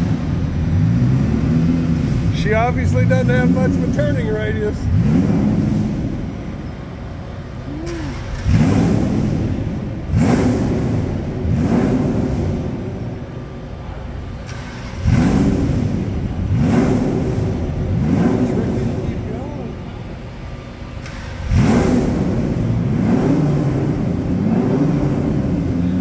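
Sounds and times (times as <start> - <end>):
engine rough idle: 0.0 - 26.0
race car engine throttle blips: 0.0 - 26.0.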